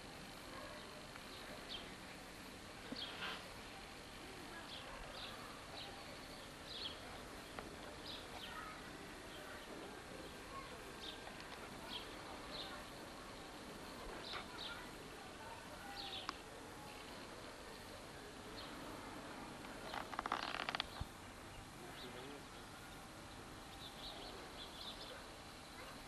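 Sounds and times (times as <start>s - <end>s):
steady background hiss: 0.0s - 26.0s
small birds chirping: 0.5s - 26.0s.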